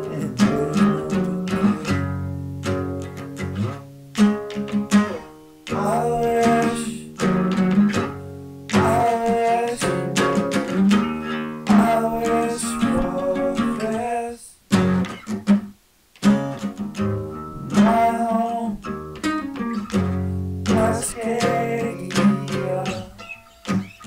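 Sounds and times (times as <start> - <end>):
plucked and strummed guitar music: 0.0 - 24.0.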